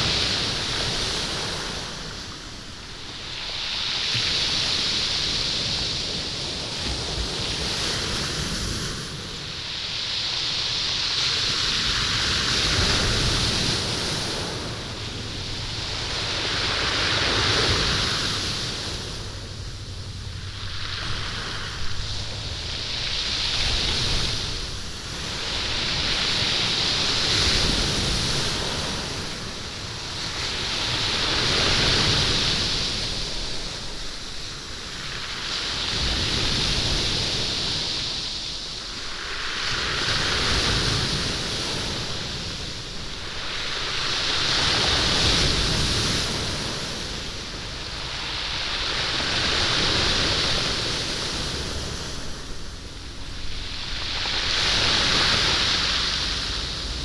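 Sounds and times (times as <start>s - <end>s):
waves rattling beach stones: 0.0s - 57.0s.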